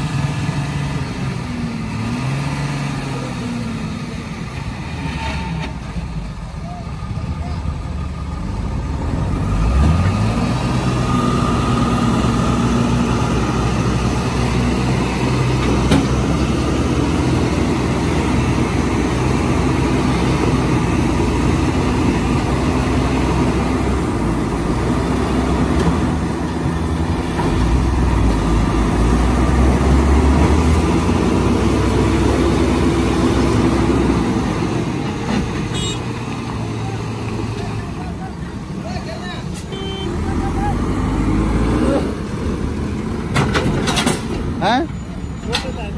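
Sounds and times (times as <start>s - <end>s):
diesel engines running under load: 0.0s - 45.9s.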